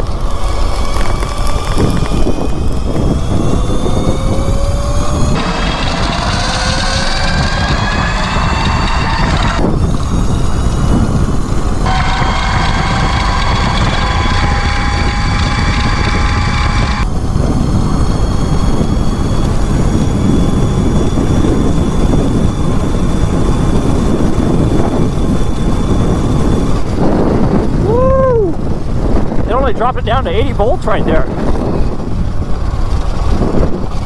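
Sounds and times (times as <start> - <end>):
electric motor whining: 0.0 - 34.0
wind rush on microphone: 0.0 - 34.0.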